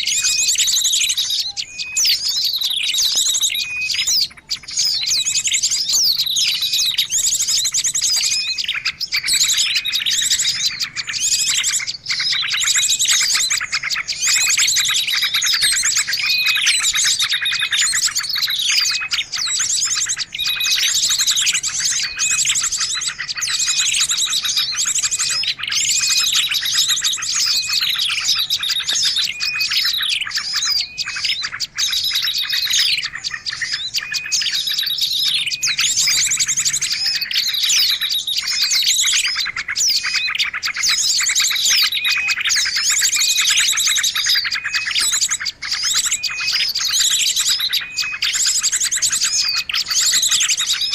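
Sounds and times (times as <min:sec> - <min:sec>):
songbirds chorus: 0:00.0 - 0:50.9.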